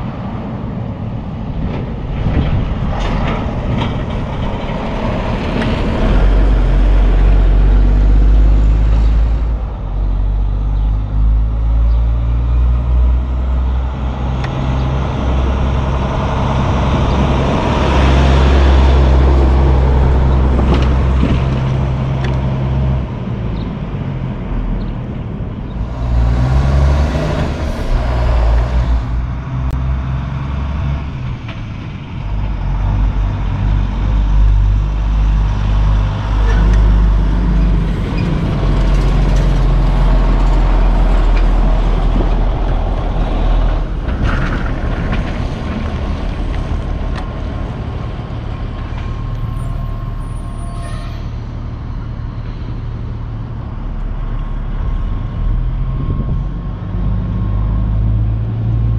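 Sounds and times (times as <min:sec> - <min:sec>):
diesel truck engine drone: 0:00.0 - 0:58.9.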